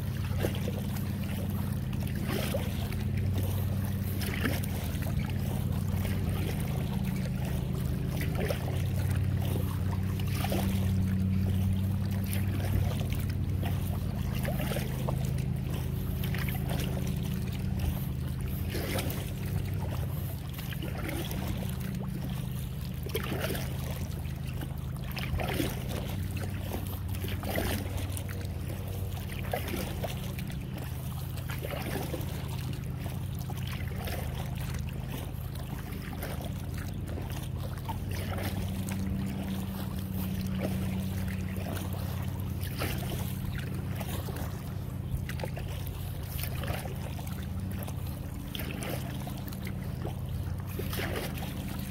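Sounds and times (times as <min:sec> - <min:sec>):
paddle strokes splashing in water: 0:00.0 - 0:51.9
steady low hum: 0:00.0 - 0:51.9.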